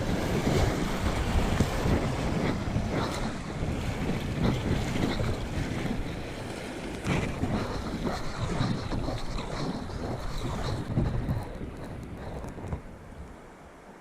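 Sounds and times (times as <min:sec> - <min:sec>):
wind noise on microphone: 0:00.0 - 0:13.7.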